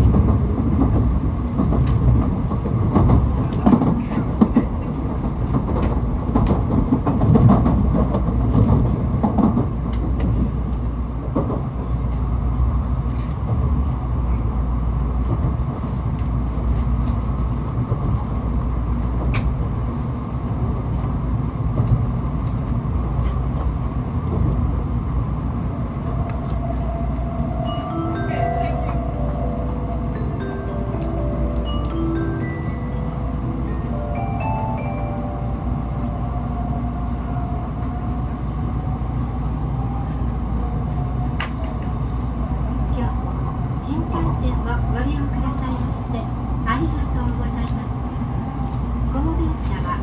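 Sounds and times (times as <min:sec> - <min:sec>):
train cabin low rumble: 0:00.0 - 0:50.0.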